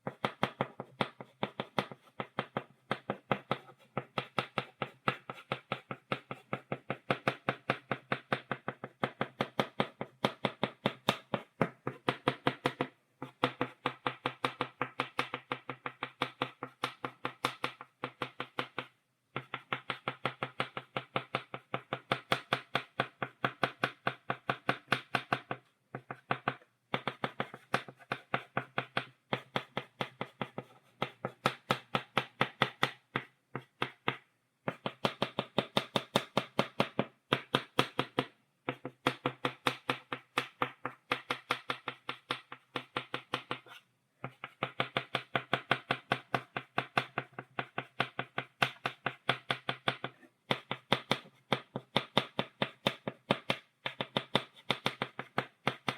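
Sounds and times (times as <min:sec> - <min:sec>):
chalk tapping on a blackboard: 0:00.0 - 0:55.9.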